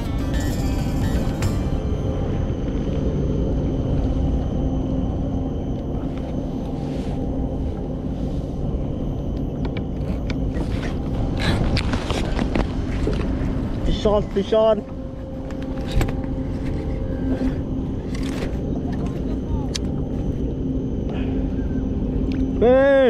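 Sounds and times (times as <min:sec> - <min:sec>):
wind rumble on microphone: 0:00.0 - 0:22.8.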